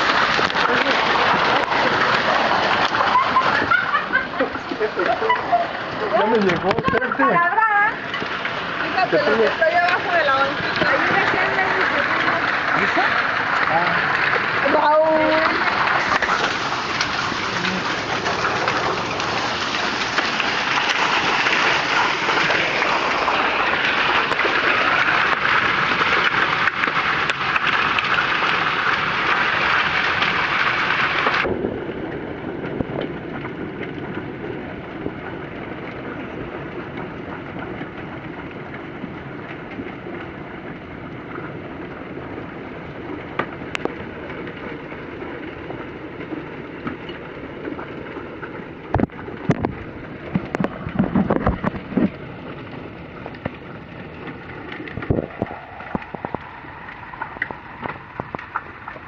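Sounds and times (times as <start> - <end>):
hail and rain drumming: 0.0 - 59.0.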